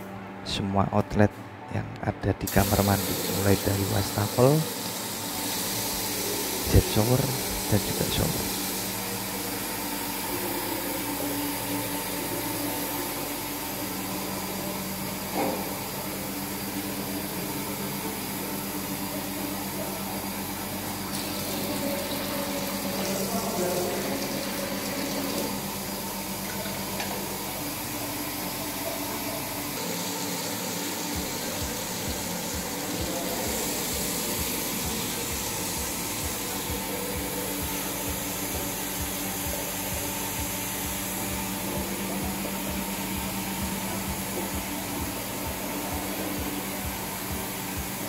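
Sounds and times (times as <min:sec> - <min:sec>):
water spraying onto tiled floor: 0:02.6 - 0:48.0.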